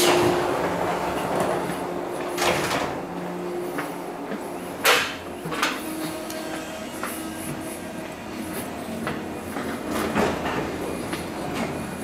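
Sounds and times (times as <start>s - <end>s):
train electrical hum: 0.0s - 12.0s.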